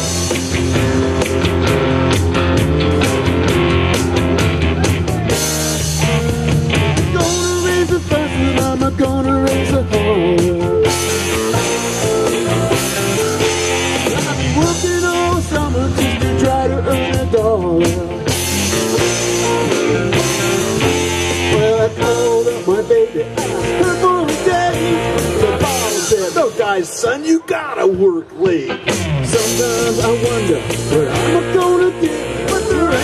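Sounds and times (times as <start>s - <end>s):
bending guitar lead line: 0.0s - 33.0s
live rock band playing: 0.0s - 33.0s.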